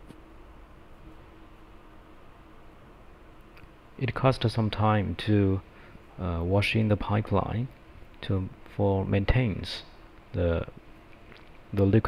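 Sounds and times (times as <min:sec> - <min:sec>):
faint machine hum: 0:00.0 - 0:12.0.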